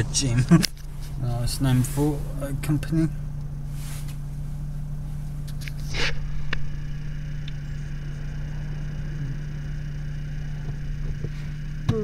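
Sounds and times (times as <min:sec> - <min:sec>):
car engine drone and road noise: 0:00.0 - 0:12.0.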